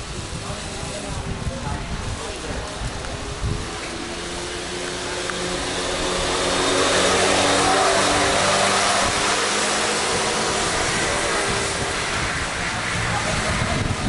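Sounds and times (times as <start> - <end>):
go-kart engine passing: 0.0 - 14.0.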